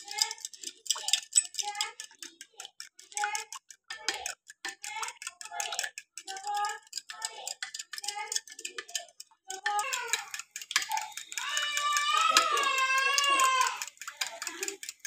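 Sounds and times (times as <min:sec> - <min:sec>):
spoon clinking against glass bowl: 0:00.0 - 0:15.0.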